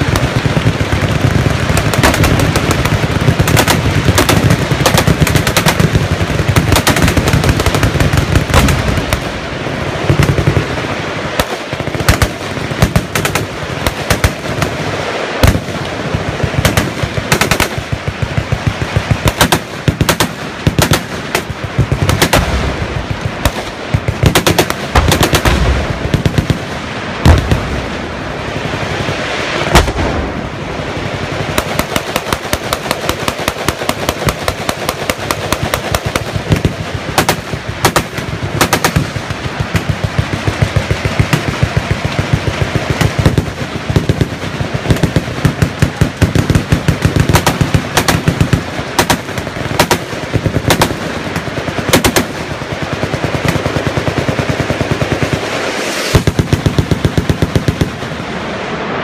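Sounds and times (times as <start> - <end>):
machine guns firing: 0.0 - 27.9, 31.1 - 58.1.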